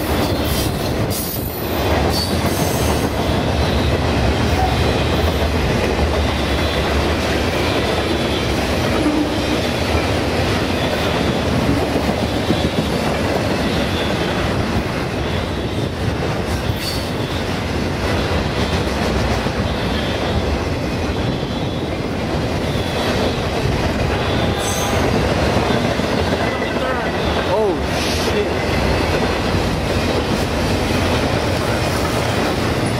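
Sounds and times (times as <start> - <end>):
freight train wheels clattering: 0.0 - 32.9.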